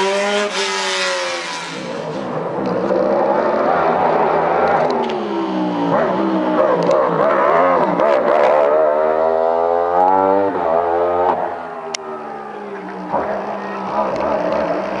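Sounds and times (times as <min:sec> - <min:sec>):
racing car engine accelerating: 0:00.0 - 0:15.0.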